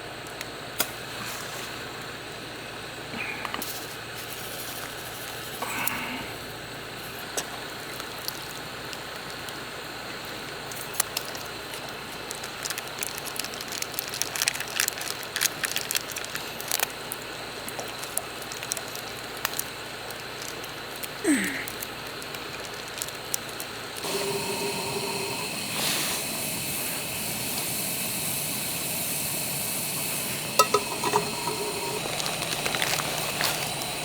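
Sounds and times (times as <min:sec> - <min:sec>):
steady hiss: 0:00.0 - 0:34.0
wood fire crackling: 0:03.6 - 0:34.0.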